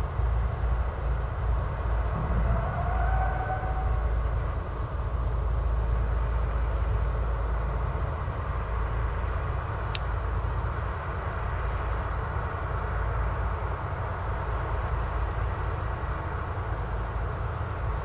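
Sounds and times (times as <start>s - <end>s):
diesel engines droning: 0.0s - 18.0s.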